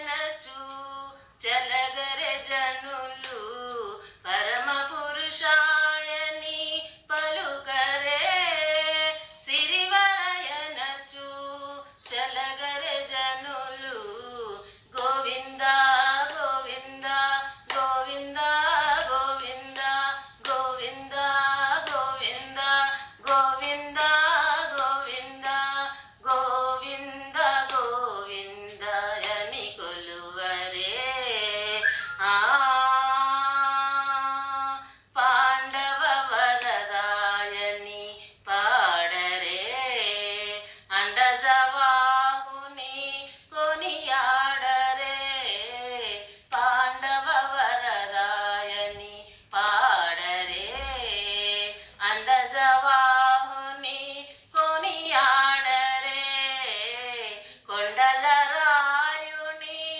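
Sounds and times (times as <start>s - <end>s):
woman singing devotional song: 0.0s - 59.9s.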